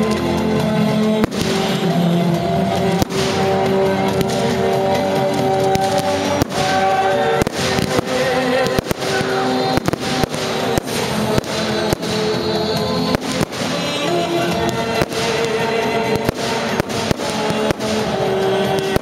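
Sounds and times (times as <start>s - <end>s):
fireworks launching and bursting: 0.0s - 19.0s
music with sustained tones: 0.0s - 19.0s.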